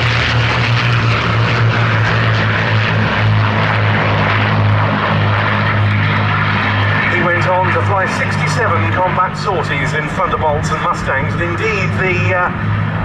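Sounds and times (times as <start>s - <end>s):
propeller aircraft engine drone: 0.0s - 13.0s.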